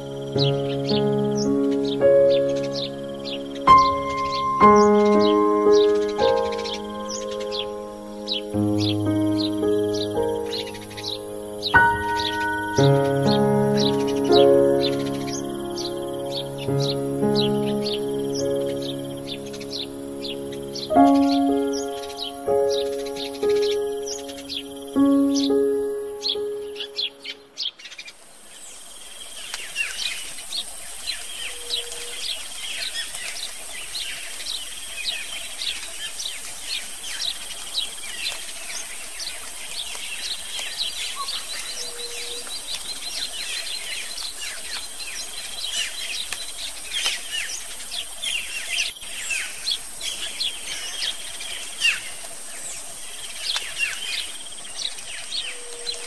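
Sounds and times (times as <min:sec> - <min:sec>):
birds chirping chorus: 0:00.0 - 0:56.0.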